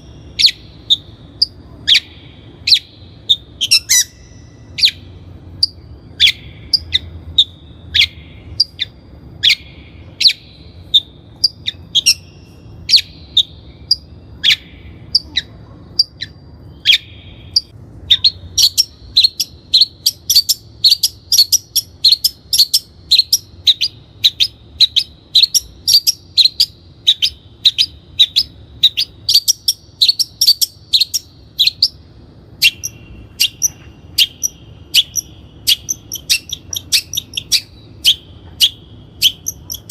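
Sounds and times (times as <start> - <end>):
bird harsh calling: 0.0 - 39.9.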